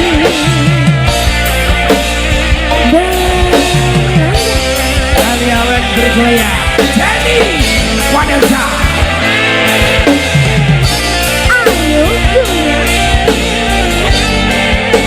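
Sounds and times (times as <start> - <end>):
drum beat: 0.0 - 15.0
melodic lead line: 0.0 - 15.0
steady bass: 0.0 - 15.0.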